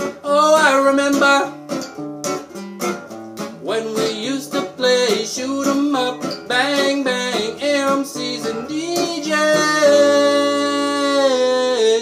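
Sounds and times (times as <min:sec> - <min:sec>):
man singing: 0:00.0 - 0:01.6, 0:03.6 - 0:12.0
strummed acoustic guitar: 0:00.0 - 0:12.0.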